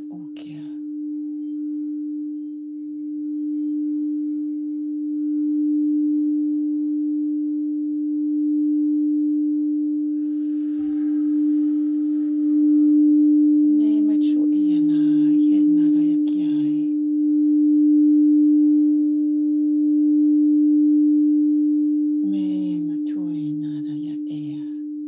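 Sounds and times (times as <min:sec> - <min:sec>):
singing bowl sustained tone: 0:00.0 - 0:25.0.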